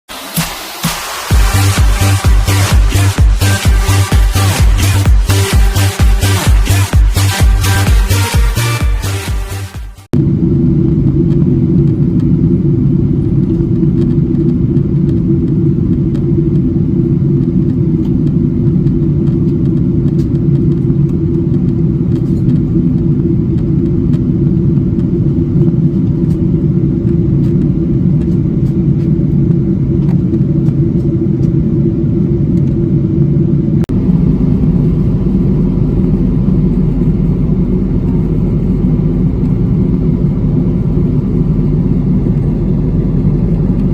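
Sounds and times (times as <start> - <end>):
airliner cabin drone: 0.1 - 43.9.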